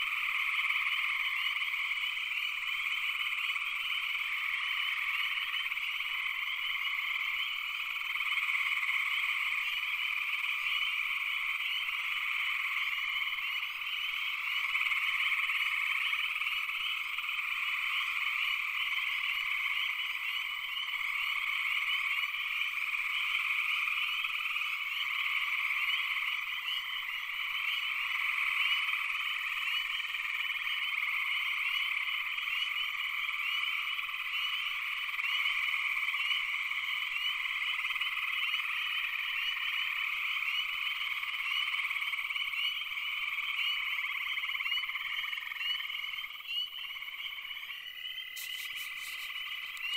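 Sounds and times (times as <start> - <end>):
frogs calling in chorus: 0.0 - 49.9.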